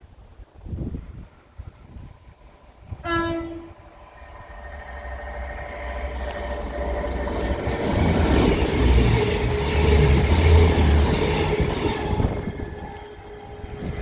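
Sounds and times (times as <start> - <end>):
train rumbling past: 0.1 - 14.0.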